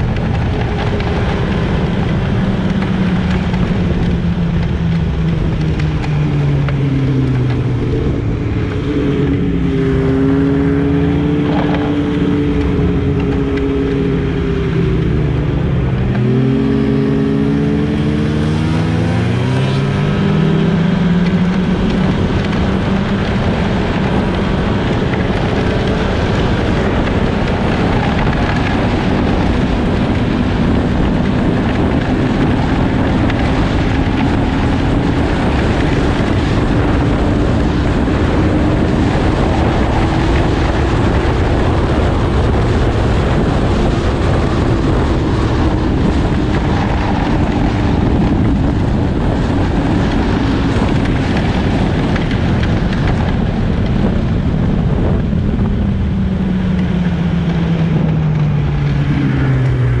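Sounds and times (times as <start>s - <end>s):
loud rushing noise: 0.0s - 60.0s
snowmobile engine running: 0.0s - 60.0s.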